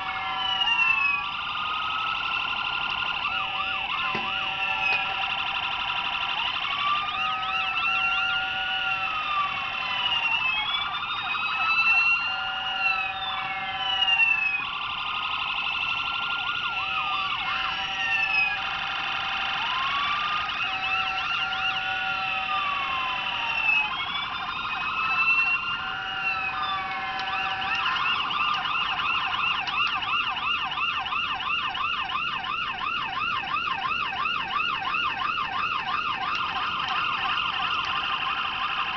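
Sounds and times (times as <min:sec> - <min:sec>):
electronic siren wailing: 0:00.0 - 0:38.9.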